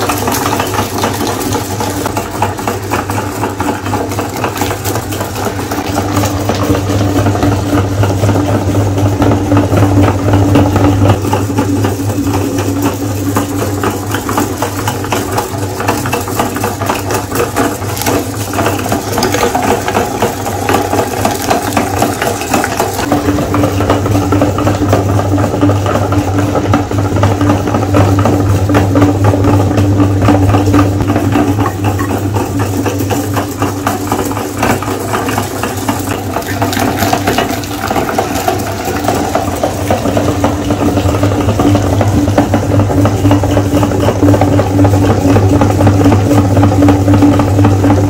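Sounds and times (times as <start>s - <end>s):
electric meat grinder running: 0.0s - 48.0s.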